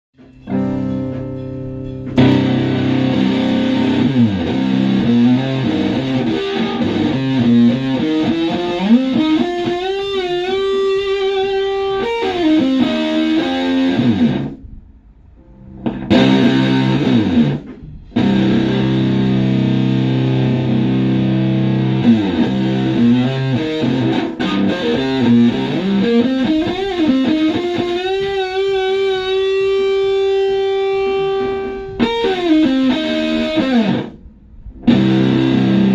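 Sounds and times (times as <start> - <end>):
distorted electric guitar riff: 0.2 - 35.9.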